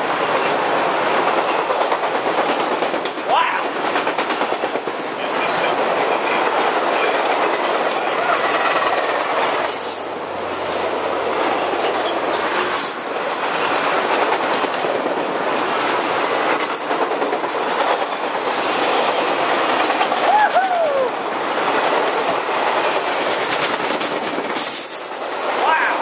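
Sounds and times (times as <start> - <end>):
clickety-clack over rail joints: 0.0 - 26.0
steel wheels rushing on rail: 0.0 - 26.0.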